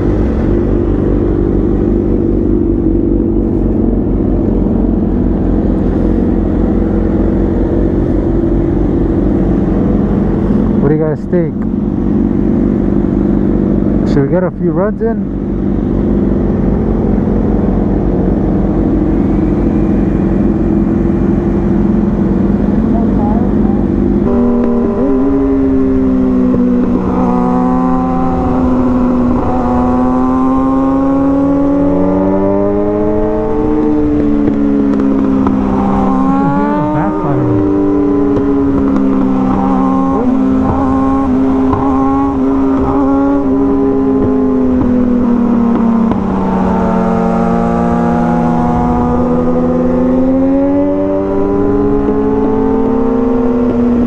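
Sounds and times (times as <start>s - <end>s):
motorcycle engine revving: 0.0s - 54.0s
motorcycle engine running: 0.0s - 54.0s.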